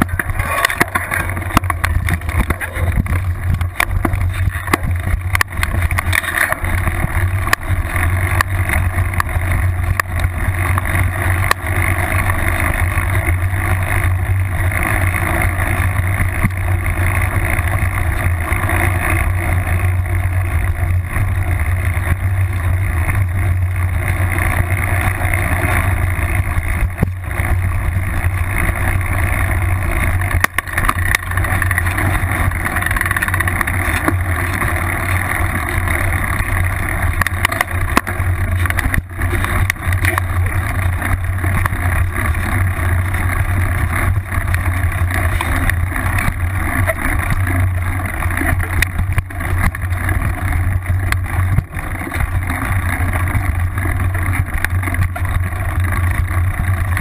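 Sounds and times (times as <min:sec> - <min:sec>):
bike rolling rumble: 0:00.0 - 0:57.0
grass brushing against bike: 0:00.0 - 0:57.0.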